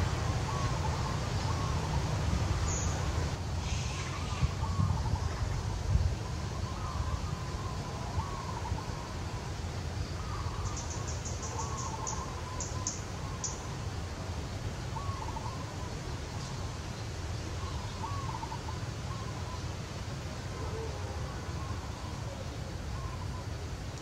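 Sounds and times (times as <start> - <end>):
faint wavering calls: 0.0 - 5.6, 6.2 - 9.5, 10.2 - 13.8, 15.0 - 16.6, 17.4 - 23.7.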